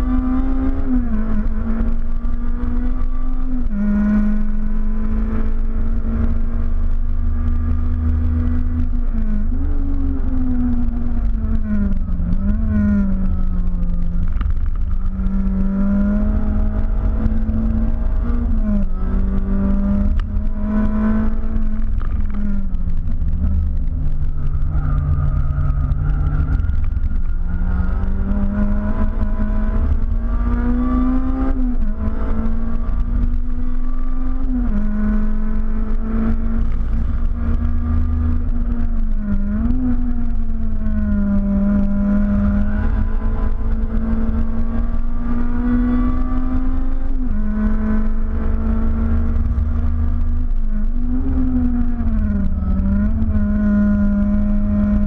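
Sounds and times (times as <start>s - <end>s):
car engine revving high: 0.0s - 55.0s
road and wind rumble: 0.0s - 55.0s.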